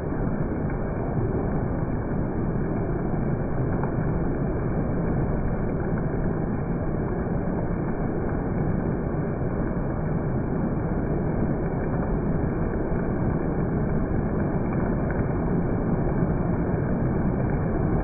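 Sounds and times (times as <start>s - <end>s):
heavy rain on road: 0.0s - 18.0s.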